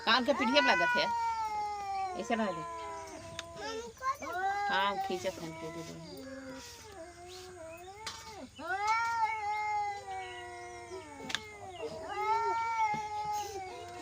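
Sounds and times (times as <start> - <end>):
cat yowling: 0.0 - 14.0.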